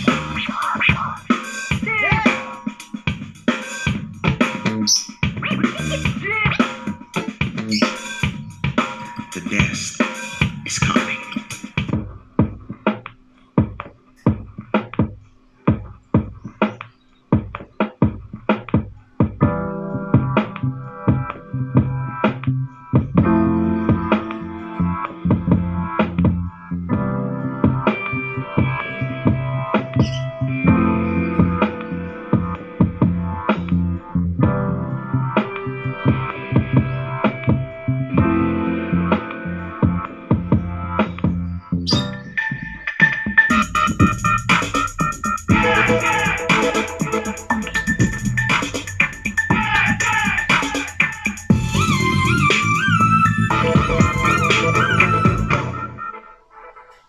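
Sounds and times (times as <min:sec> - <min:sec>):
music with strong drum beat: 0:00.0 - 0:24.4, 0:25.2 - 0:33.8, 0:35.4 - 0:38.4, 0:39.2 - 0:56.0.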